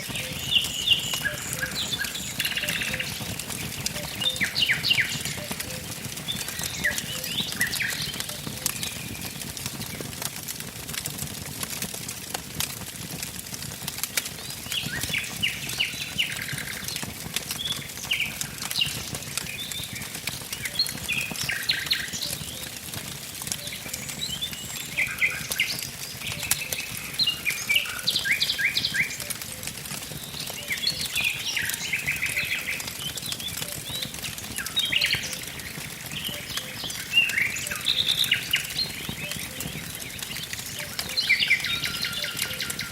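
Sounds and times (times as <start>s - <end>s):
songbirds singing: 0.0s - 10.3s, 14.1s - 42.9s
wood fire crackling and popping: 0.0s - 42.9s.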